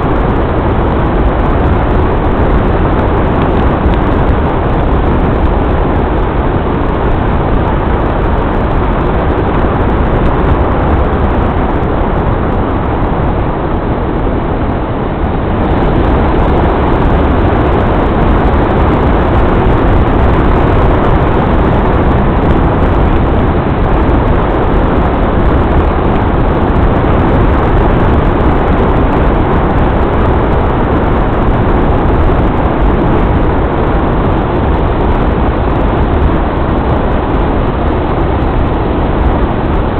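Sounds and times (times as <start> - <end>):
vehicle road noise rumbling: 0.0 - 39.9.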